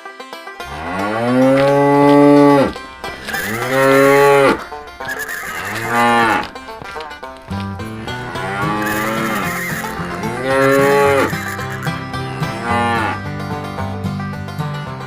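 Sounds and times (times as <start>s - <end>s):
cows mooing: 0.6s - 13.6s.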